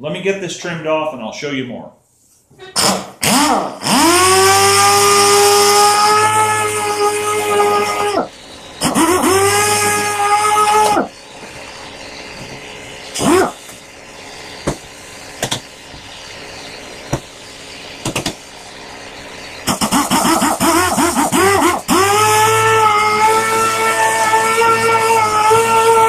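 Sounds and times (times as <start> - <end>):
disc sander whining: 3.9 - 26.0.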